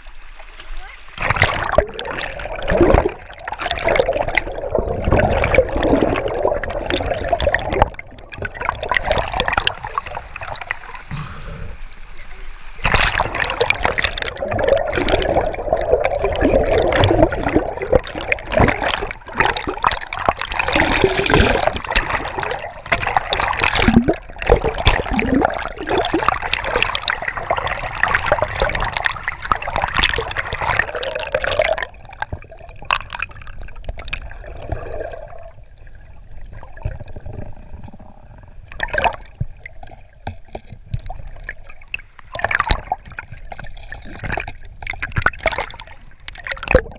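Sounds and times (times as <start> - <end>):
river water rushing and bubbling: 0.0 - 46.9
underwater gurgle: 0.0 - 46.9.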